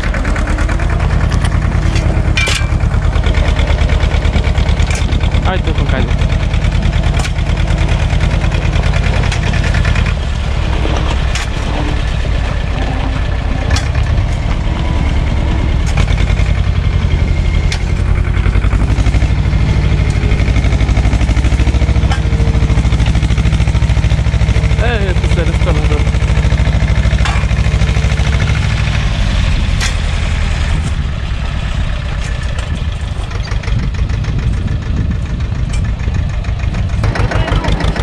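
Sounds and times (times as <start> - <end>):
sharp knocks and rattles: 0.0 - 38.0
tractor engine running: 0.0 - 38.0.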